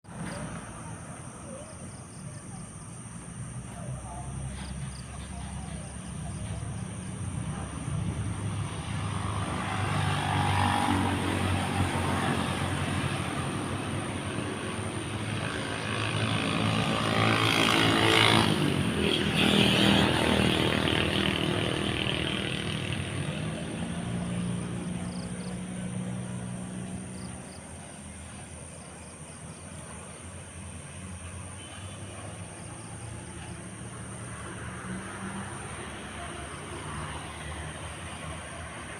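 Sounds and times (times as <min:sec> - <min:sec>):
engine passing by: 0:00.1 - 0:38.9.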